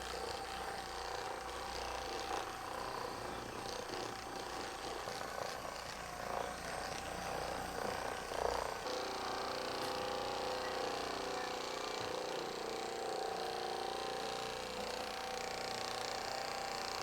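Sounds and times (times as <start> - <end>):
electric massager buzzing: 0.0 - 17.0.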